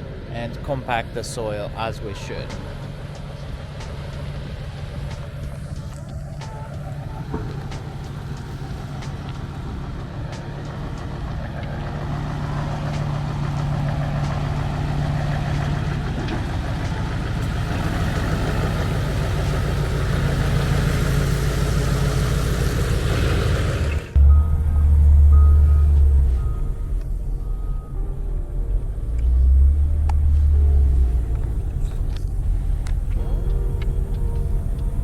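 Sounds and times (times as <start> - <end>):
heavy truck engine running: 0.0 - 35.0.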